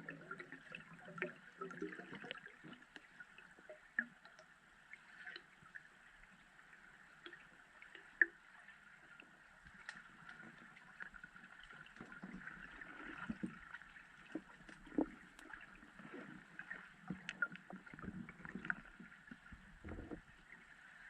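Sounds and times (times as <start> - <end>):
soft water wash: 0.0 - 21.0.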